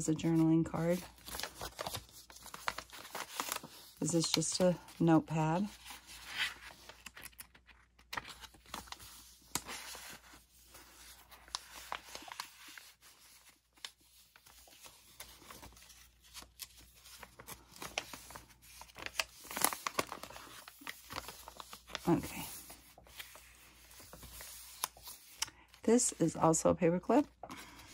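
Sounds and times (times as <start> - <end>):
paper pages rustling: 0.0 - 26.4.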